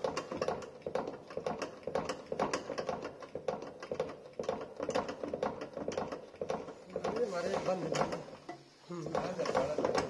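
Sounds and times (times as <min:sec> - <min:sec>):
hand pump clicking and knocking: 0:00.0 - 0:10.0.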